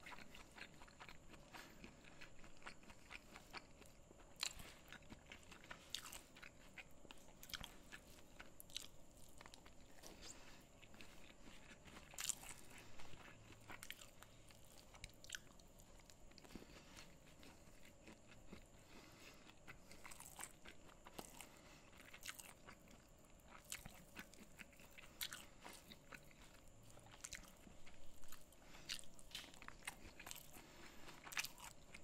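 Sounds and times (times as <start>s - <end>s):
chewing with crunches: 0.0s - 32.0s.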